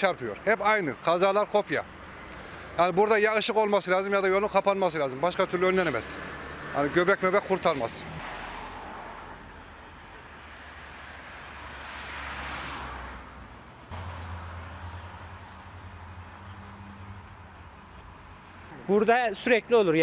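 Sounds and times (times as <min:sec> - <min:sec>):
car passing: 0:03.9 - 0:20.0.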